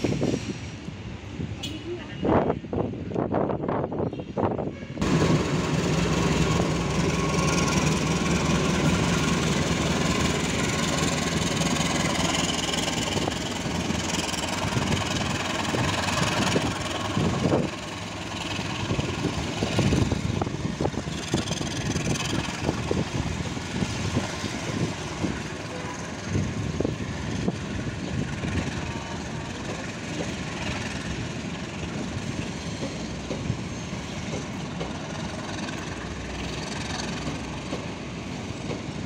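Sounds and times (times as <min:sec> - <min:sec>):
train coaches rumbling past: 0:00.0 - 0:39.0
locomotive engine running loud: 0:05.0 - 0:39.0.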